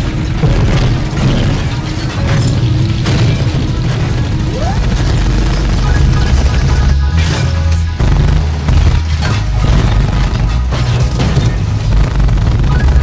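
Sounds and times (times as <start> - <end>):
background music: 0.0 - 13.0
booming explosions: 0.0 - 13.0
machine-gun fire: 0.0 - 13.0.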